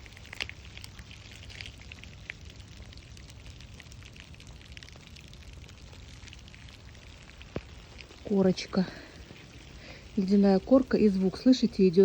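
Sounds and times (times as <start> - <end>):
low steady rumble: 0.0 - 12.0
rain ticking on ice: 0.0 - 12.0.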